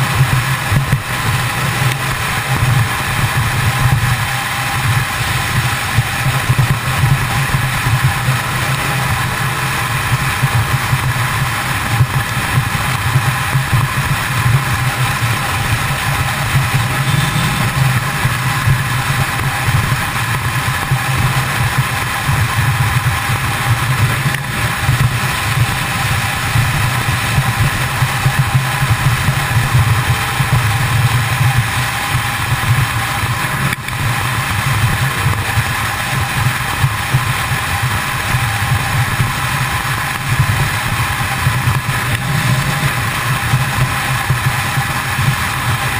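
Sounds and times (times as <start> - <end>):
motorcycle engine cruising: 0.0 - 45.9
wind and road noise: 0.0 - 45.9.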